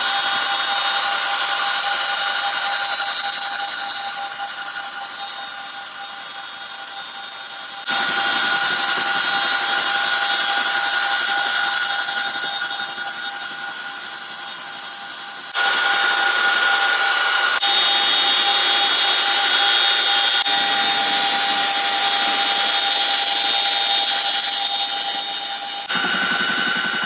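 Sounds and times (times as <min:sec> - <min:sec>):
helicopter rotor noise: 0:00.0 - 0:27.0
turbine engine whine: 0:00.0 - 0:27.0.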